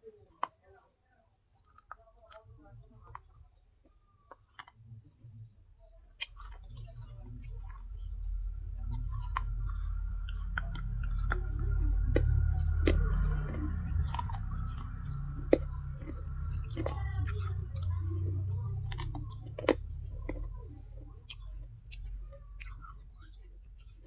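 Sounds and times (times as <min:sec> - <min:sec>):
low chewing rumble: 0:00.0 - 0:24.0
crunching of baked clay: 0:01.5 - 0:24.0.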